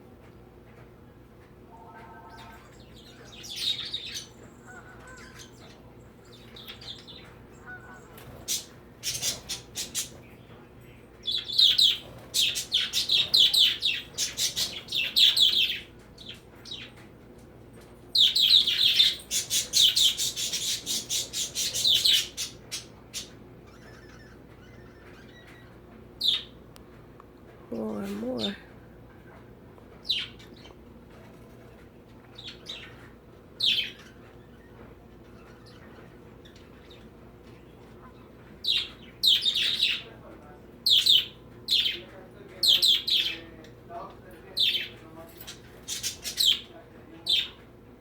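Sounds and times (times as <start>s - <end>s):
birds chirping and squawking: 1.7s - 43.8s, 44.5s - 47.8s.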